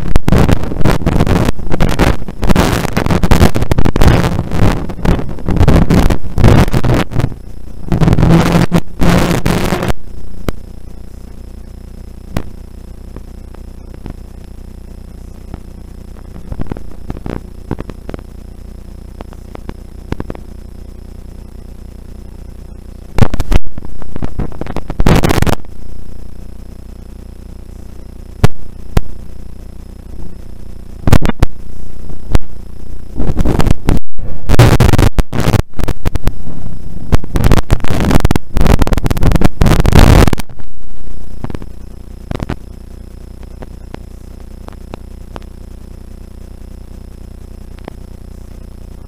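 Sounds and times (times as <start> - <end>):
loud crackling bursts of noise: 0.0 - 49.0
low hum: 0.0 - 49.0.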